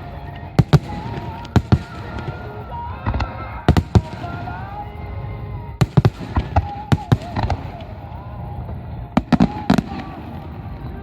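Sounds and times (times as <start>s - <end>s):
firework shells bursting: 0.0s - 5.2s, 5.8s - 11.0s.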